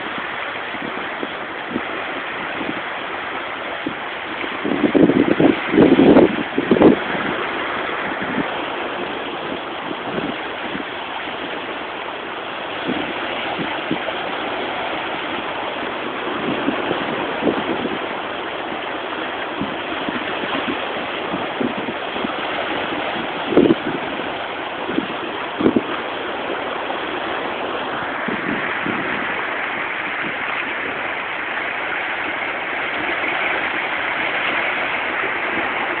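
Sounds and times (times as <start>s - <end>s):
rushing sea water: 0.0s - 36.0s.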